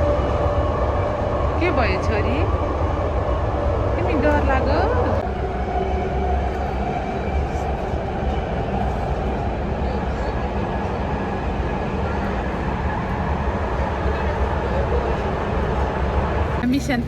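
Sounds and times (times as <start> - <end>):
train rumble heard on board: 0.0 - 17.0.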